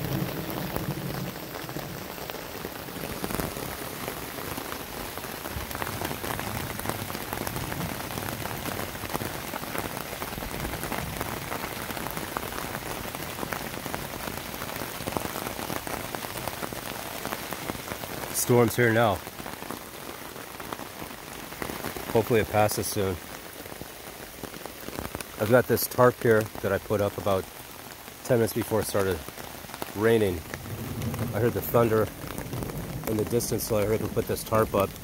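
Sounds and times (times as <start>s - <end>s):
rain falling through forest: 0.0s - 35.0s.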